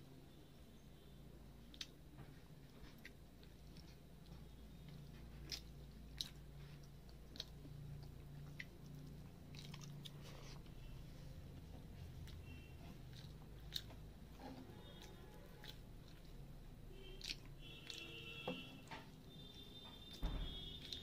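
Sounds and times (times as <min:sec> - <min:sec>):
low steady hum: 0:00.0 - 0:21.0
chewing: 0:01.6 - 0:19.6, 0:20.7 - 0:21.0.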